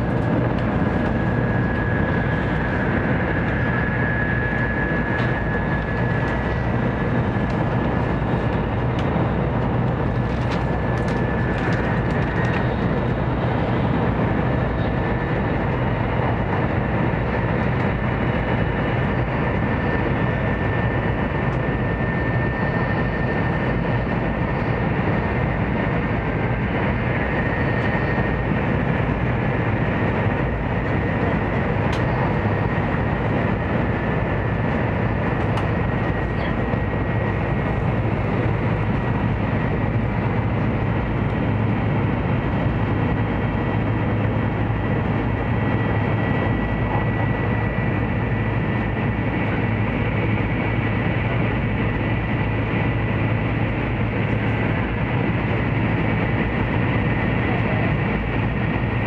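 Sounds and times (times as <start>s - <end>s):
train cabin rumble and rush: 0.0s - 59.0s.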